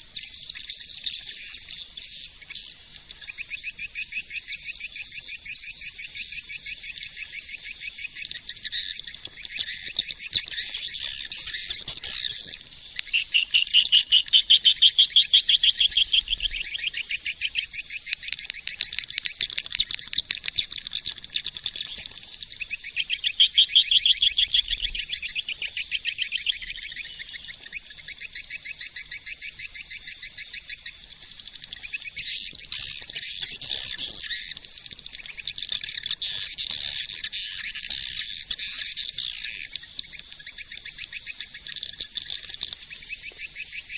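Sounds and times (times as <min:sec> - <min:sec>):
swiftlets twittering chirps: 0:00.0 - 0:43.9.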